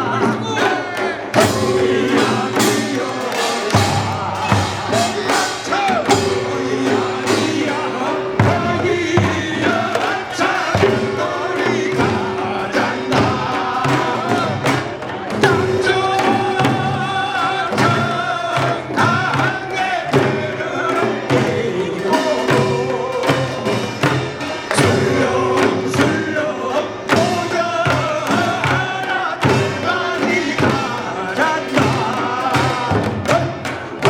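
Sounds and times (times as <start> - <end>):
person singing: 0.0 - 34.0
regular drum strokes: 0.0 - 34.0
shawm melody: 0.0 - 34.0.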